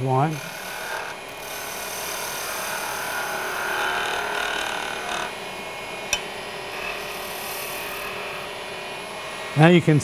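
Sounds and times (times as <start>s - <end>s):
wood lathe cutting hiss: 0.0s - 5.7s, 6.4s - 9.9s.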